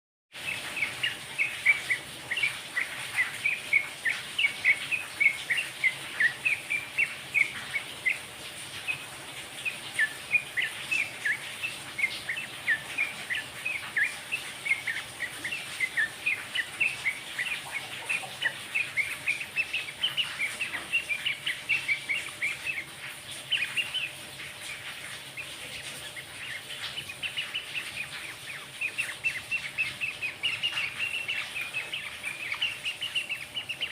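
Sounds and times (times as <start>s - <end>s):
bird chattering chirpy notes: 0.3s - 33.9s.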